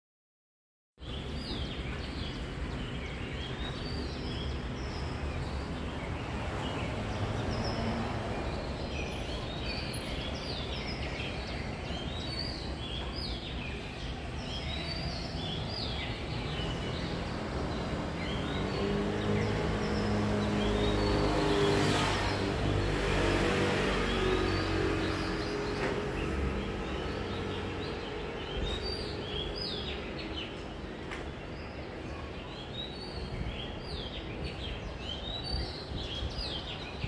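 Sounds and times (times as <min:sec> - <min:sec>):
road traffic rumble: 0:01.0 - 0:37.0.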